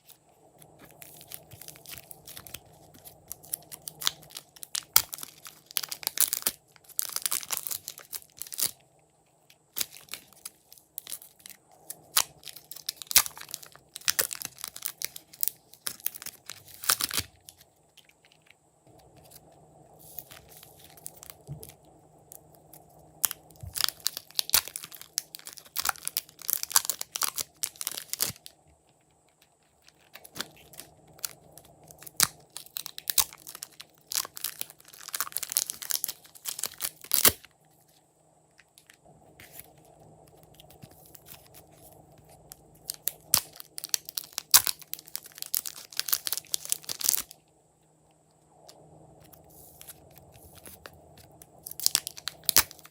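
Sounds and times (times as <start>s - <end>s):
sticky crackling and popping: 0.0s - 47.6s, 48.2s - 52.9s.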